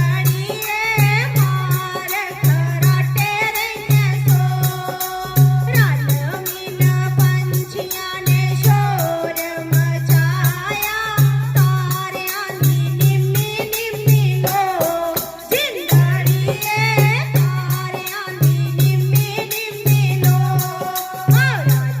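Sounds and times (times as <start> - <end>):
rattling shaker percussion: 0.0 - 22.0.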